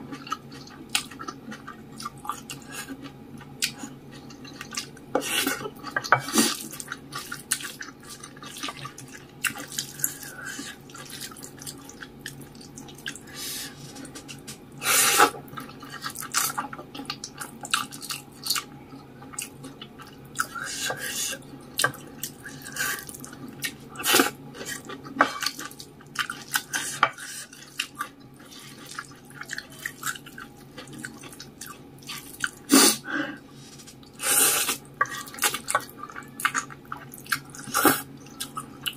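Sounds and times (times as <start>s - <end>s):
faint steady hum: 0.0s - 38.9s
person chewing noodles: 0.1s - 33.0s, 33.6s - 38.9s.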